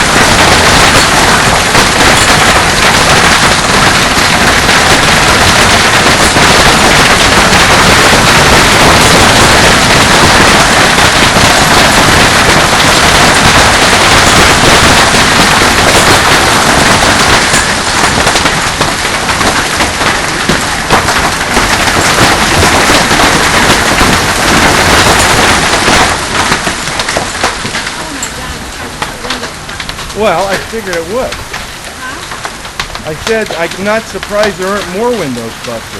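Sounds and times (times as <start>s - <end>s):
heavy hail pounding: 0.0s - 35.9s.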